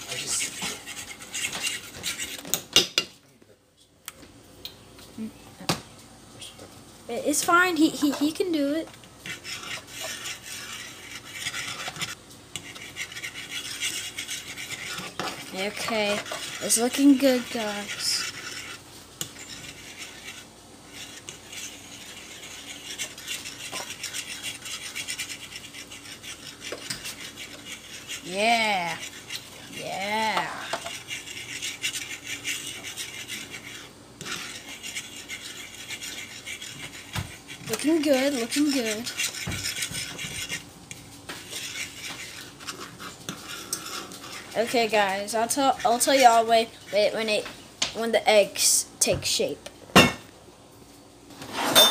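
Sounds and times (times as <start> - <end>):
fork scraping eggs in a pan: 0.0 - 2.9, 7.3 - 47.5.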